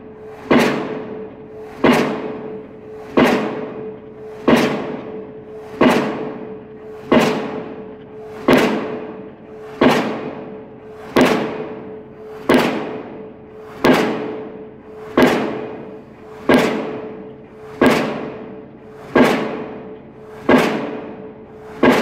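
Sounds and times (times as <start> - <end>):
pile driver banging: 0.2 - 22.0.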